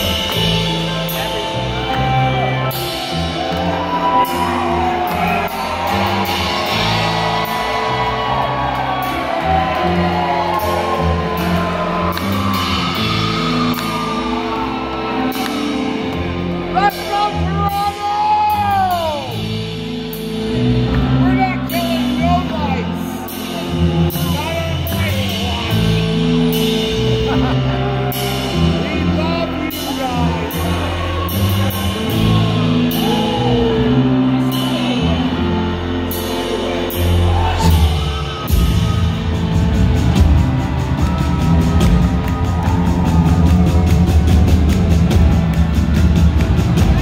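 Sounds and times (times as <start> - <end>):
bass guitar: 0.0 - 47.0
drums: 0.0 - 47.0.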